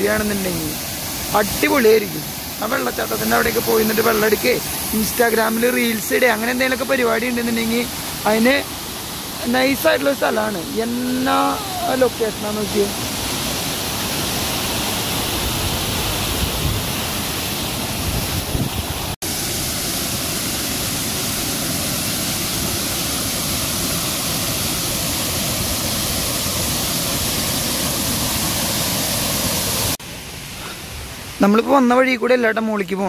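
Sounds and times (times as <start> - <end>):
small waterfall splashing: 0.0 - 32.5.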